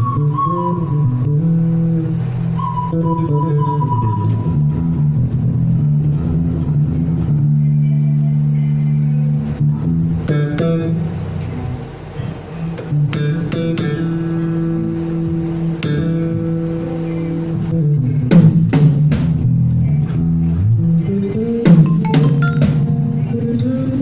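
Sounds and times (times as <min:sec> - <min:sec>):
bright plucked bass notes: 0:00.0 - 0:24.0
held low bass notes: 0:00.0 - 0:24.0.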